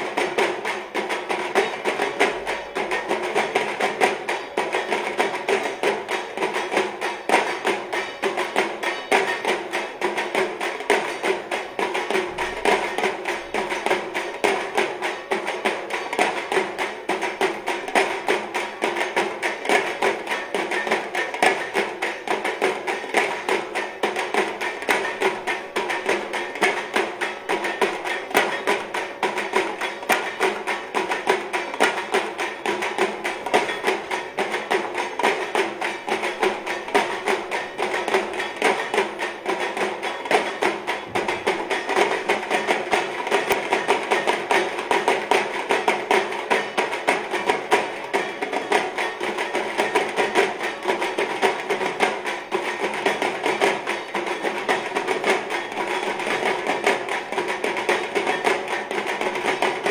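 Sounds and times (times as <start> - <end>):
percussion music with stick strikes: 0.0 - 59.9.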